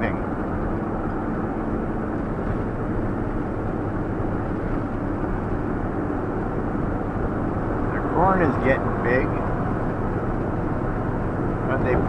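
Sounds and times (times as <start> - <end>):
engine and road noise in cabin: 0.0 - 12.0.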